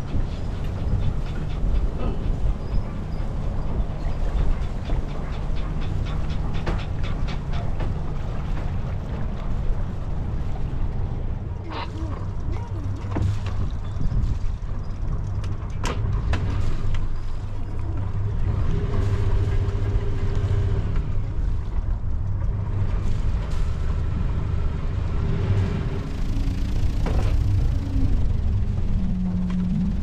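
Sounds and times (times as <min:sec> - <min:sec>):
boat engine rumble: 0:00.0 - 0:30.0.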